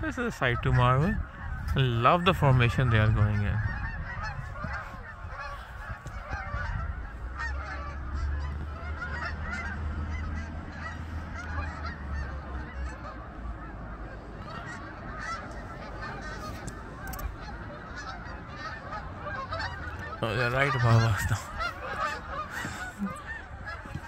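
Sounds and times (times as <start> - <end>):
geese honking in chorus: 0.0 - 24.0.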